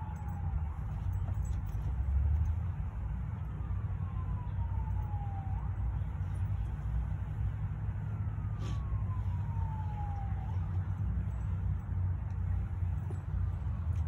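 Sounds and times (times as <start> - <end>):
distant siren wailing: 0.0 - 14.0
steady low rumble: 0.0 - 14.0.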